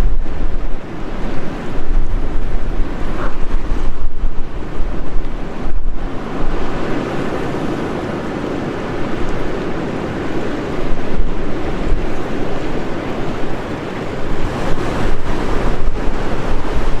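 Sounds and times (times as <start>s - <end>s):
storm surf breaking: 0.0s - 17.0s
wind buffeting microphone: 0.0s - 17.0s.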